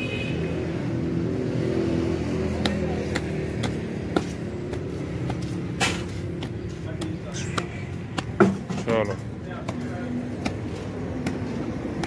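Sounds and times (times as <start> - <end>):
engine running: 1.2 - 12.0.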